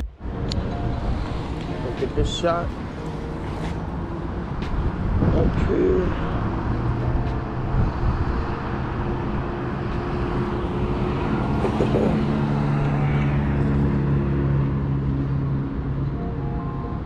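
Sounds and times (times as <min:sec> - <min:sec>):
city street noise: 0:00.0 - 0:17.0
vehicle engine humming: 0:00.0 - 0:17.0.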